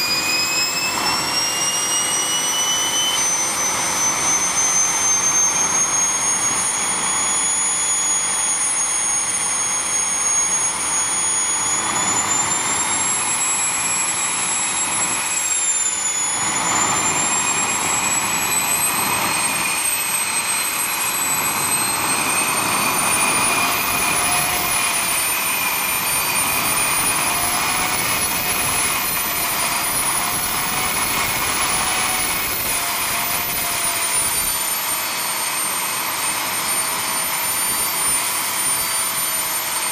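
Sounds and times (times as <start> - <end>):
model jet engine whine: 0.0 - 39.9.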